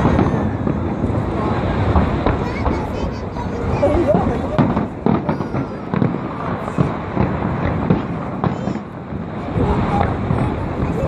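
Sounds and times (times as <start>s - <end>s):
crowd murmur: 0.0s - 11.0s
fireworks bangs: 0.0s - 11.0s.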